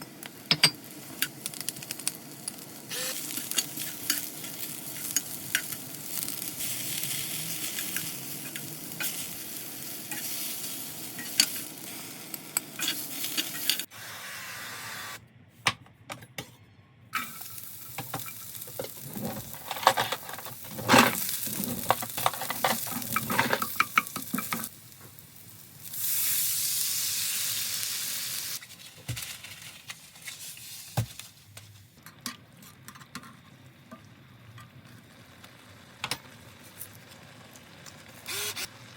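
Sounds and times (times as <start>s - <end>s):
food sizzling in a frying pan: 0.0s - 14.2s, 17.2s - 31.2s, 32.8s - 38.9s.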